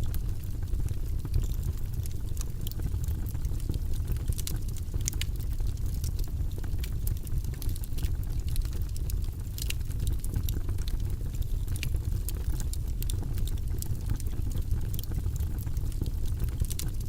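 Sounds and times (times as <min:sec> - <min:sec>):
logs crackling in a fireplace: 0:00.0 - 0:17.0.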